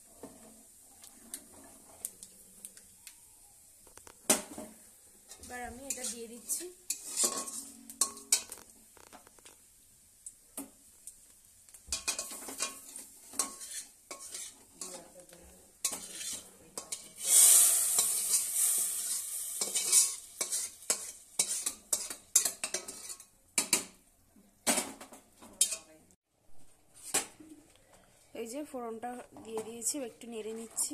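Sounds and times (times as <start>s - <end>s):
hot oil sizzling: 0.0s - 25.9s.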